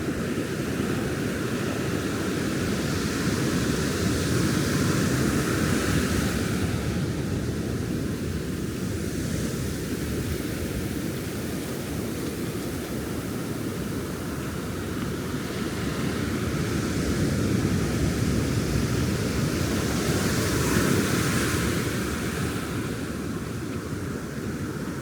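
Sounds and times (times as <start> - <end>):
waves breaking on sand: 0.1 - 25.0.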